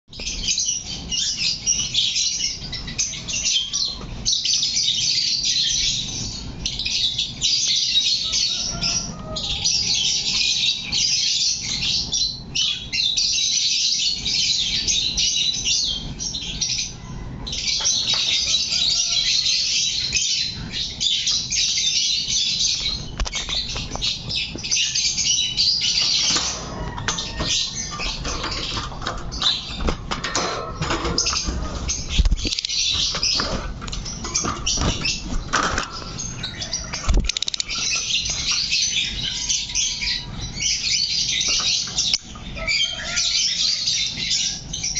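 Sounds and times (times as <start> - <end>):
lovebird chirping and squeaking: 0.2 - 44.9.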